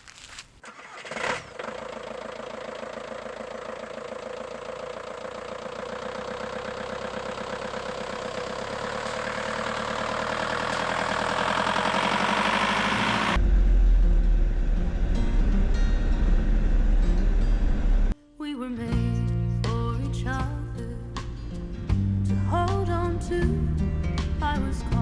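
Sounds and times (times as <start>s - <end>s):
van engine starting and running: 0.1s - 18.2s, 18.9s - 25.0s.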